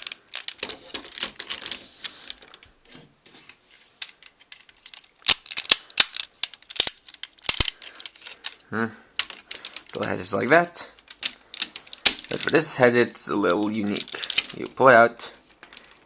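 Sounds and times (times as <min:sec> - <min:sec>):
plastic toy parts clicking: 0:00.0 - 0:03.0, 0:04.0 - 0:16.0.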